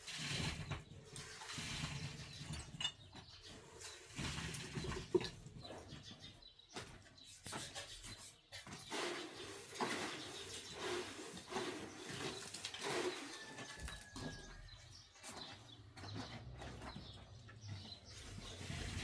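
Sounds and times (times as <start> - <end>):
animal and bird calls: 0.3 - 19.0.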